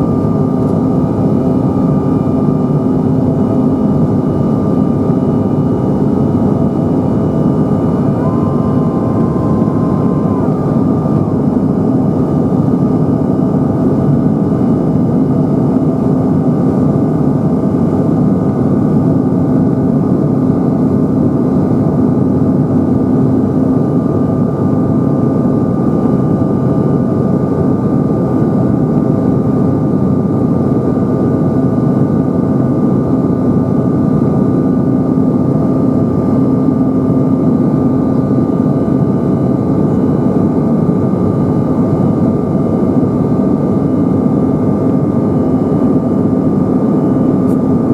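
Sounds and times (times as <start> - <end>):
airplane cabin engine drone: 0.0 - 47.9.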